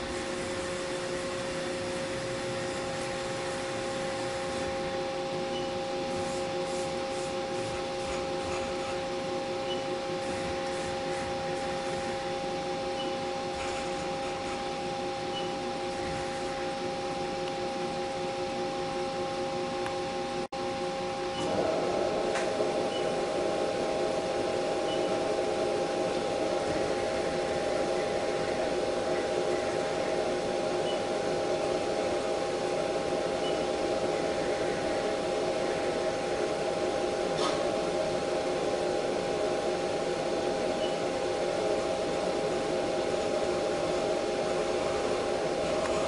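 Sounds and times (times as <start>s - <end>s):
machine tool whining: 0.0s - 46.0s.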